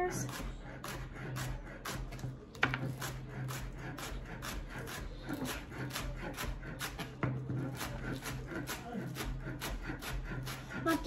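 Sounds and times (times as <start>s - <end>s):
knife chopping on cutting board: 0.2s - 11.0s.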